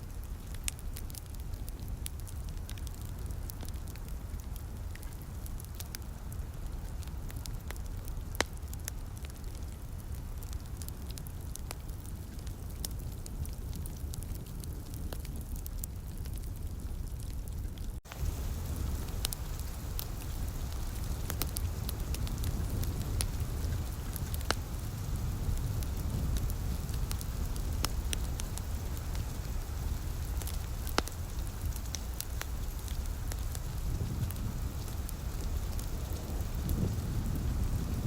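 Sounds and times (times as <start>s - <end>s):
soft rain hiss: 0.0s - 38.0s
wood fire crackling: 0.0s - 38.0s
sharp fire pops: 0.1s - 38.0s.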